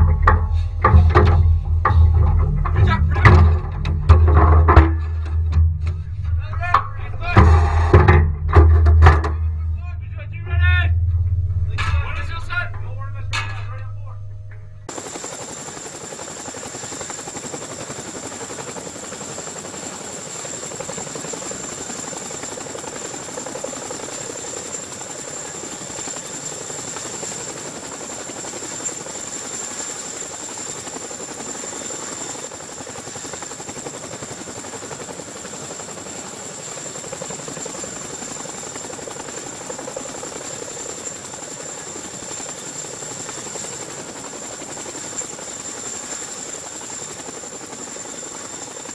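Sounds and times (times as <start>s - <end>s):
helicopter hovering overhead: 0.0s - 48.9s.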